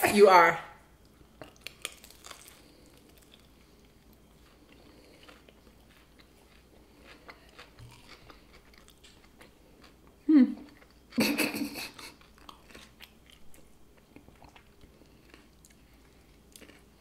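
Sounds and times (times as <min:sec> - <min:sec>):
crunching and chewing food: 0:01.0 - 0:11.2, 0:11.8 - 0:17.0.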